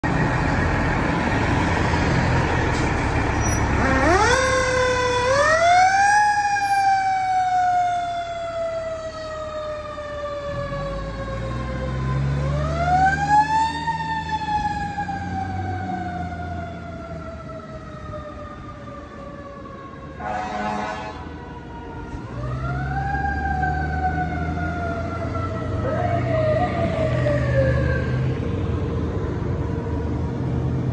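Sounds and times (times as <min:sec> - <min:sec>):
diesel engine rumbling: 0:00.0 - 0:30.9
mechanical siren wailing: 0:03.3 - 0:28.5.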